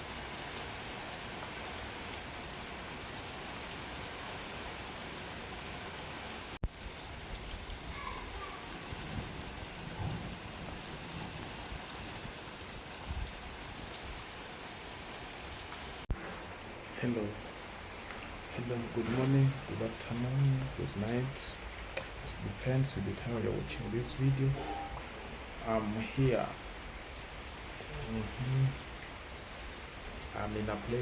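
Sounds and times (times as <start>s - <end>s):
steady rain hissing: 0.0s - 31.0s.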